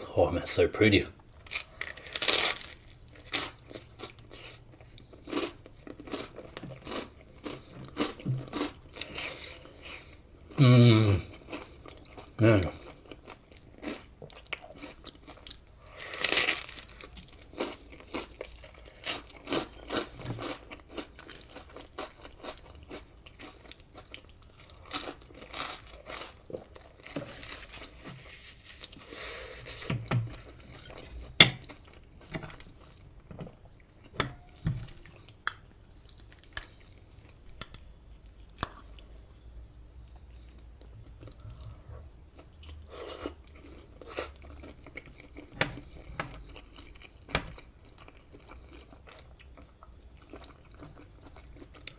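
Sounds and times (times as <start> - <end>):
close chewing and crunching: 1.5 - 51.9.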